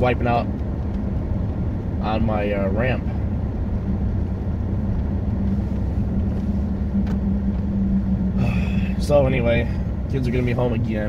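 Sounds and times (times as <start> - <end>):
car engine hum: 0.0 - 11.0
road and tyre rumble: 0.0 - 11.0.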